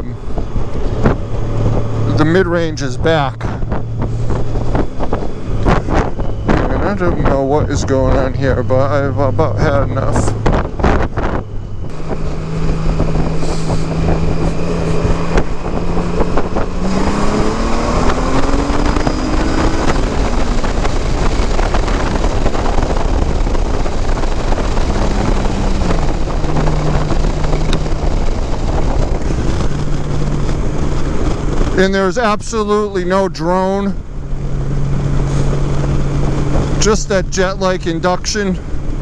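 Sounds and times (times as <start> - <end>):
motorcycle engine revving: 0.0 - 39.0
wind on microphone: 0.0 - 39.0.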